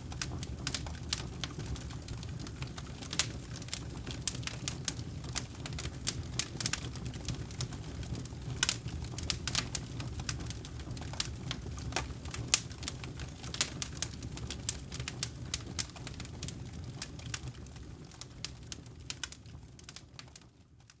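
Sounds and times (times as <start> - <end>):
campfire flames rumbling: 0.0 - 20.7
burning logs crackling and popping: 0.0 - 21.0.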